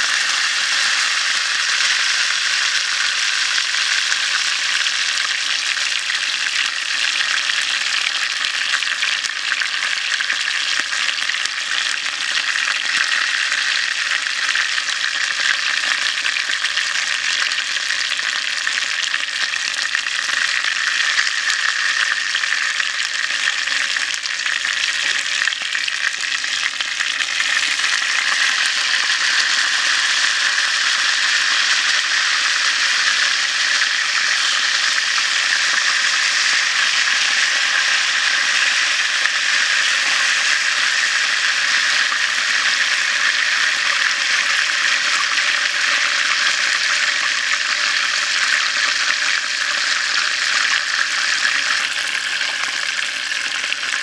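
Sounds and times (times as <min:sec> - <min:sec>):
oil sizzling in deep-frying: 0:00.0 - 0:54.0.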